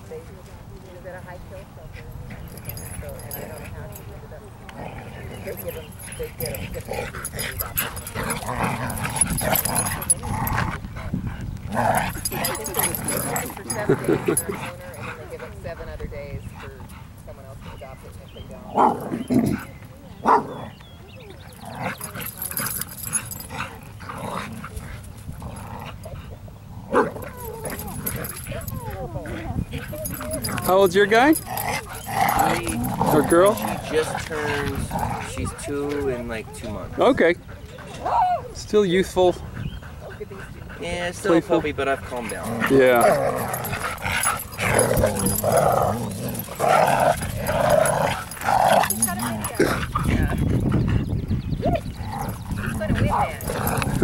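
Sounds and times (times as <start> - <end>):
dogs growling in play: 1.9 - 38.4, 39.3 - 54.0.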